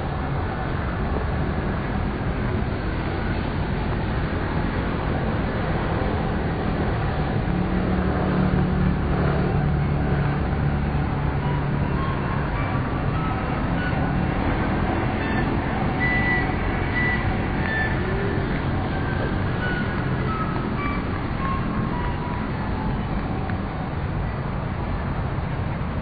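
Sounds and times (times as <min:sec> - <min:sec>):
road traffic drone: 0:00.0 - 0:26.0.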